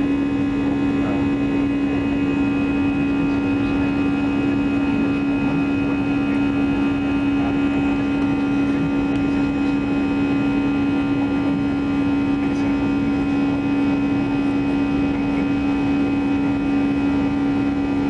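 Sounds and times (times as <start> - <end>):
jet engine hum and whine: 0.0 - 18.0.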